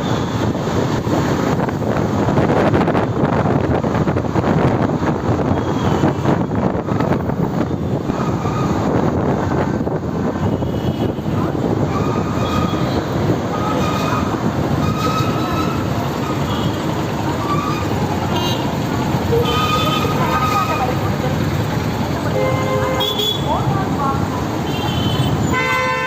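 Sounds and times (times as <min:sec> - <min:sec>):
motorbike road noise: 0:00.0 - 0:26.0
rushing wind: 0:00.0 - 0:26.0.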